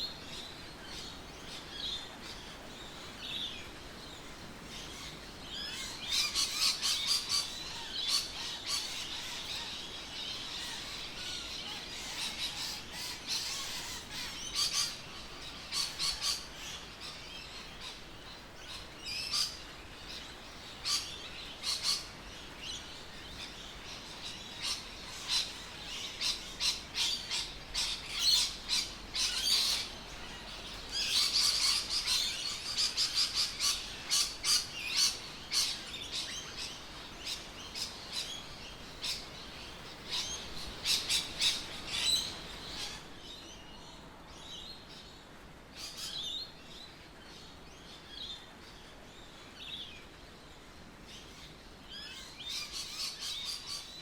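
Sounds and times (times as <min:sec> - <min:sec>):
birds chirping: 0:00.0 - 0:50.2.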